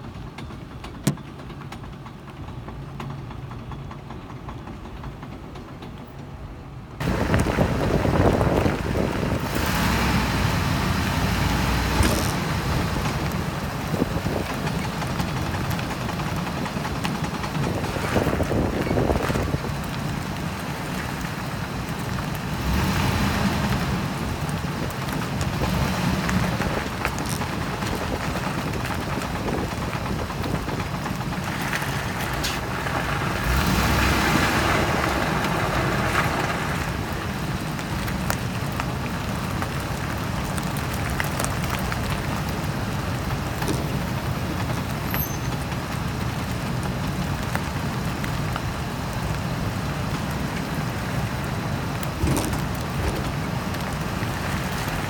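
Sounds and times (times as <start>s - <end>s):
vehicle driving road noise: 0.0s - 55.0s.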